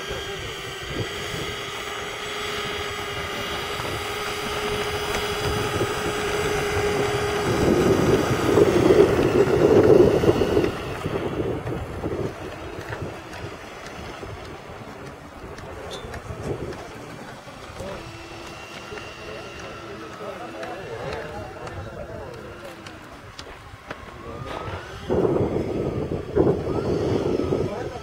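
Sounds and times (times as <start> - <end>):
model jet engines whining: 0.0 - 28.0
wind buffeting microphone: 0.0 - 28.0.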